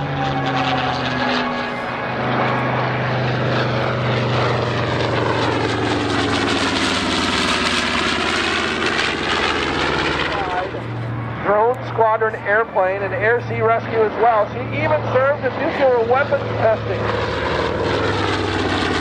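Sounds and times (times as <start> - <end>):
propeller aircraft drone: 0.0 - 19.0.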